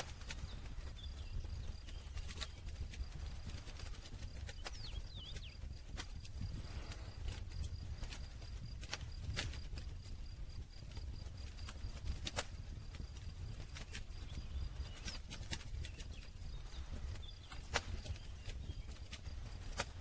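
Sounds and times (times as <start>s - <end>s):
burning wood popping and snapping: 0.0s - 20.0s
low steady fire rumble: 0.0s - 20.0s.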